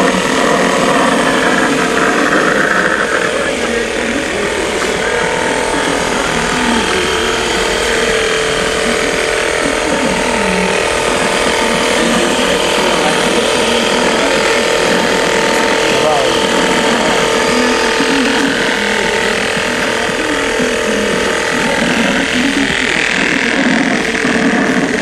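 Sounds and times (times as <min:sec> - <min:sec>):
electric motor humming and whining: 0:00.0 - 0:25.0.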